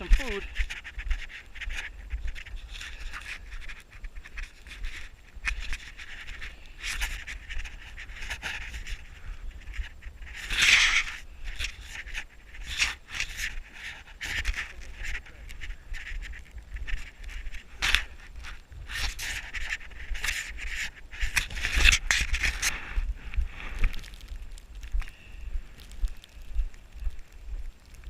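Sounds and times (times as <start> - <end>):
footsteps crunching through snow: 0.0 - 28.0
wind rumbling on microphone: 0.0 - 28.0.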